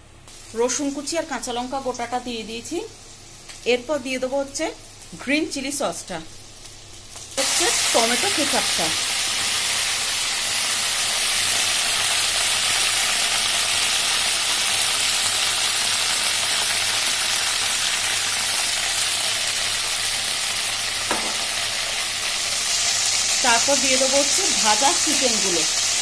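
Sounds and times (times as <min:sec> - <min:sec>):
garlic and chillies sizzling in oil: 0:00.2 - 0:26.0.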